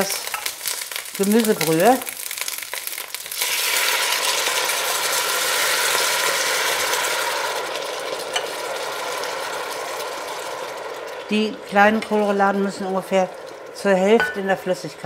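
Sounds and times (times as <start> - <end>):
broth hissing in hot pan: 0.0 - 15.0
crackling sizzle in hot fat: 0.0 - 15.0.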